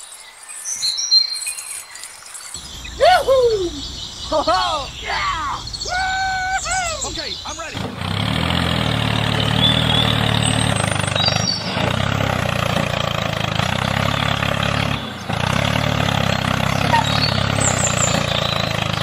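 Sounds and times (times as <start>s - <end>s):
tractor engine running: 2.6s - 19.0s.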